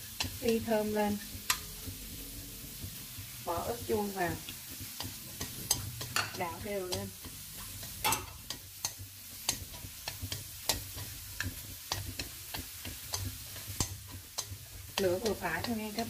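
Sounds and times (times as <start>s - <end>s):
chopsticks scraping metal pan: 0.0s - 16.0s
oil sizzling: 0.0s - 16.0s.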